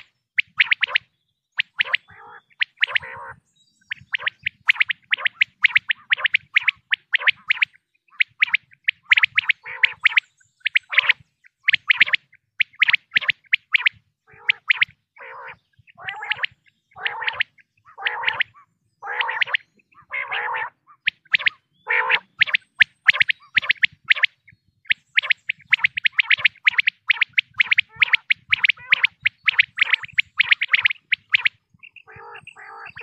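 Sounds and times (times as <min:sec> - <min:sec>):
low raspy quail calls: 0:00.0 - 0:33.0
quail calls: 0:00.0 - 0:33.0.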